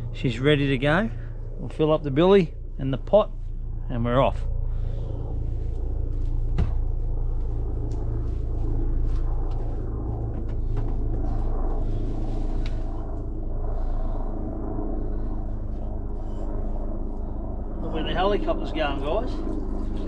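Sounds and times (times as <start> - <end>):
distant helicopter rumble: 0.0 - 20.0.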